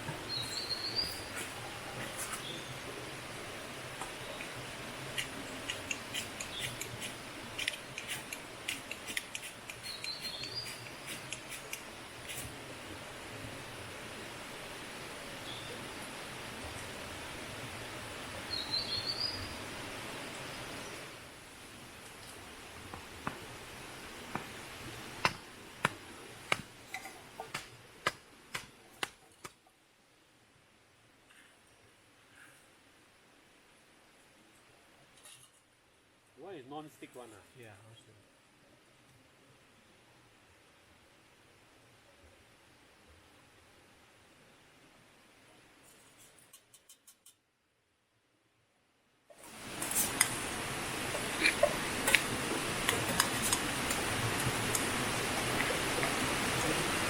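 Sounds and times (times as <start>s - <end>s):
steady hiss: 0.0s - 47.5s, 49.3s - 57.0s.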